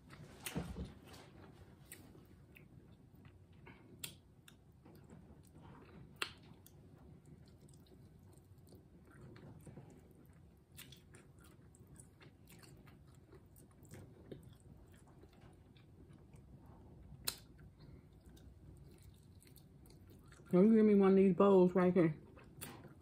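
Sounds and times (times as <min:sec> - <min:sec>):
chewing and biting: 0:01.8 - 0:20.5.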